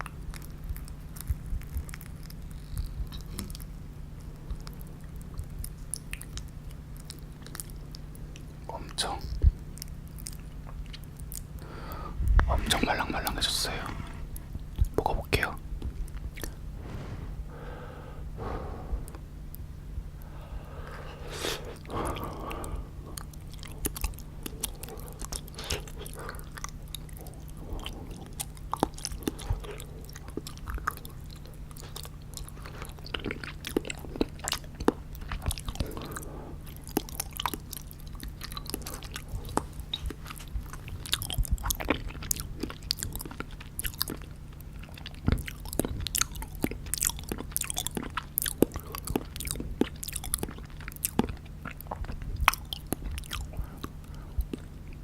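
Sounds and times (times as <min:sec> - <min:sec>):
wet chewing mouth clicks: 0:00.0 - 0:11.6, 0:12.4 - 0:17.2, 0:20.2 - 0:55.0
steady low hum: 0:00.0 - 0:55.0.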